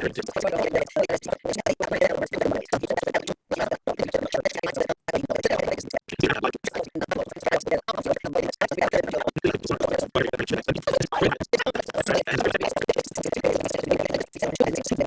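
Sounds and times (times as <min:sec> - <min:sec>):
garbled person's voice: 0:00.0 - 0:15.0.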